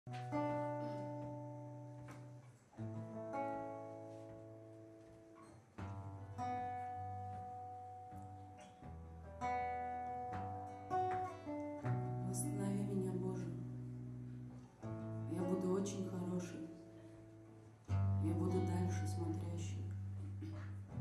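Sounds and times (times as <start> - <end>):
acoustic guitar chords ringing: 0.1 - 21.0.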